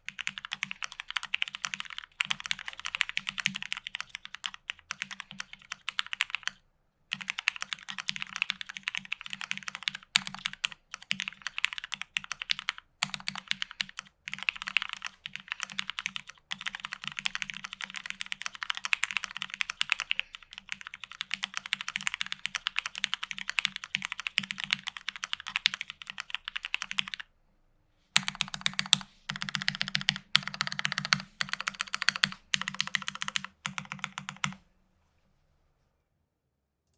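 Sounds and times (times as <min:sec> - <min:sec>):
mechanical keyboard typing: 0:00.1 - 0:27.2, 0:28.2 - 0:34.6.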